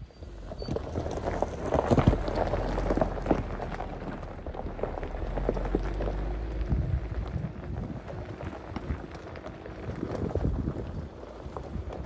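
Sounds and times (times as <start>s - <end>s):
car engine running: 0.0s - 12.0s
tyres crunching over gravel: 0.0s - 12.0s.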